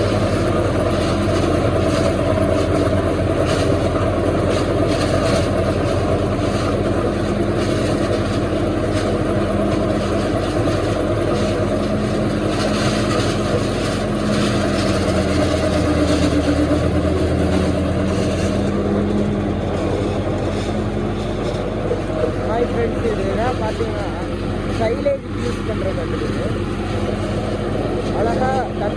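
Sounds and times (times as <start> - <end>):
harvester engine and machinery hum: 0.0 - 28.9.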